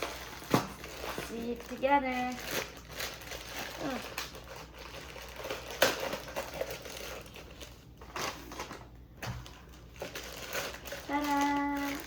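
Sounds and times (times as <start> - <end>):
paper packaging rustling and crinkling: 0.0 - 12.0.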